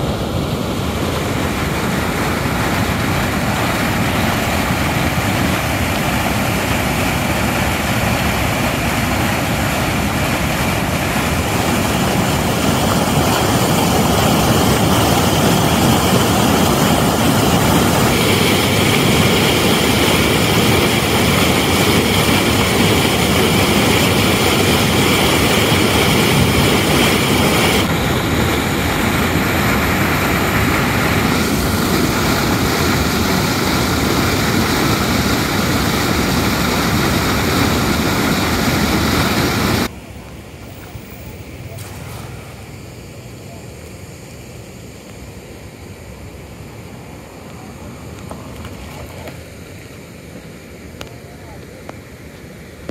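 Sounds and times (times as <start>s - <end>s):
floodwater rushing over weir: 0.0s - 52.9s.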